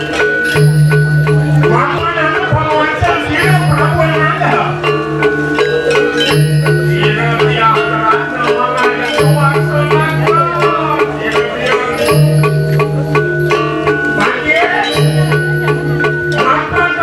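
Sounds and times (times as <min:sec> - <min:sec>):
cymbal clashes: 0:00.0 - 0:16.9
metallophone strikes: 0:00.0 - 0:17.0.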